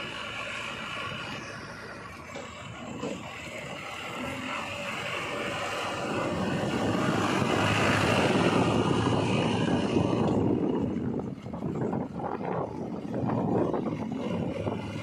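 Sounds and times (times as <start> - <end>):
diesel engine of passing digger: 0.0 - 15.0.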